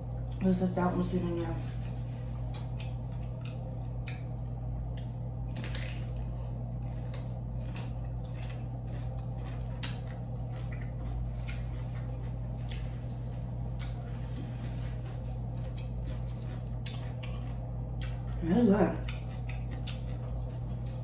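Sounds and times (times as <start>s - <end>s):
chewing and wet mouth sounds: 0.0s - 0.6s, 1.9s - 21.0s
steady low hum: 0.0s - 21.0s.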